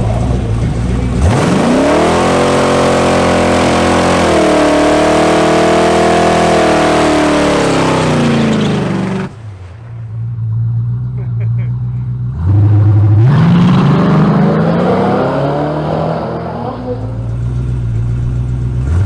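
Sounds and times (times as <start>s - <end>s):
racing car engine accelerating: 0.0s - 9.6s, 12.3s - 19.0s.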